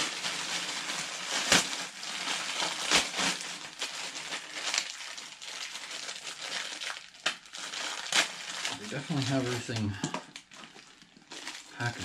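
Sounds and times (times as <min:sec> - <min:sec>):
plastic bag crinkling: 0:00.0 - 0:12.0
sharp plastic crackles: 0:00.0 - 0:12.0.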